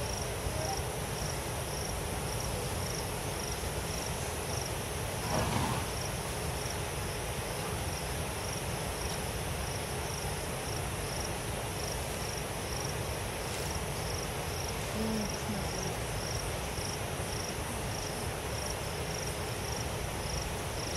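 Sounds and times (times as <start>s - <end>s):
background hiss: 0.0s - 20.9s
insect chirping: 0.0s - 20.9s.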